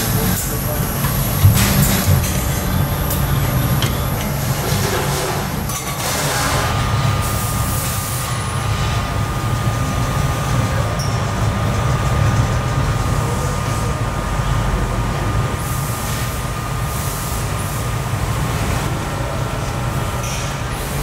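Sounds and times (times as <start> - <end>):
factory machinery rumble and whine: 0.0 - 21.0.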